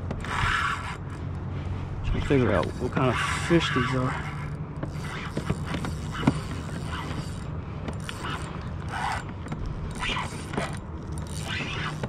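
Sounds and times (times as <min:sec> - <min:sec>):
fishing reel whirring with rasping bursts: 0:00.2 - 0:12.0.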